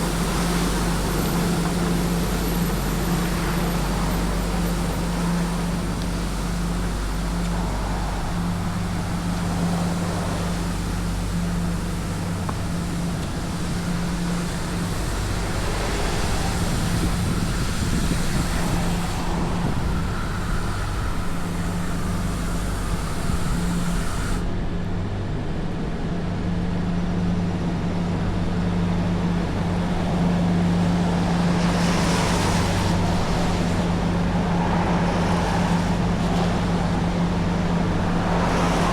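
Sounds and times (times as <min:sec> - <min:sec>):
hissing of sweeping wet pavement: 0:00.0 - 0:24.5, 0:29.0 - 0:38.9
street sweeper engine hum: 0:00.0 - 0:38.9.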